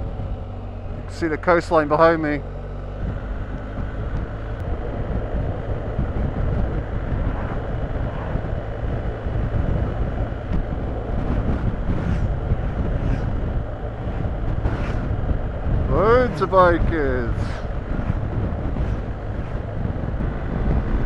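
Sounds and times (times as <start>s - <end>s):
motorcycle engine: 0.0s - 21.0s
road noise: 0.0s - 21.0s
wind rushing over microphone: 0.0s - 21.0s.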